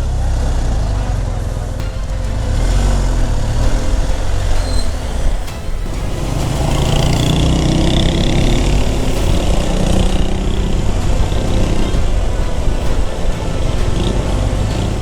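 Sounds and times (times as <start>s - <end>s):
road and traffic noise: 0.0s - 15.0s
vehicle engine running: 0.0s - 15.0s.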